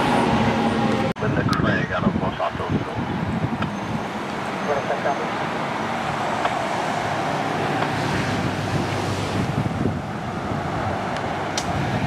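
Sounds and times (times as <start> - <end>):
wind buffeting microphone: 0.0 - 4.6, 5.4 - 12.0
road traffic rumble: 0.0 - 12.0.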